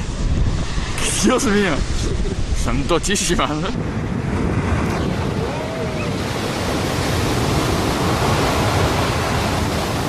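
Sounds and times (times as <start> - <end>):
storm waves breaking: 0.0 - 10.0.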